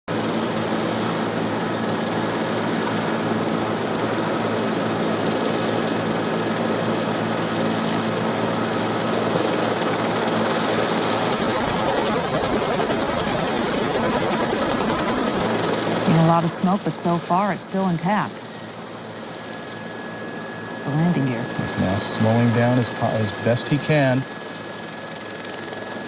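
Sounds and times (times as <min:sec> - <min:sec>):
aircraft noise rushing: 0:00.1 - 0:26.0
low steady hum: 0:00.2 - 0:26.0.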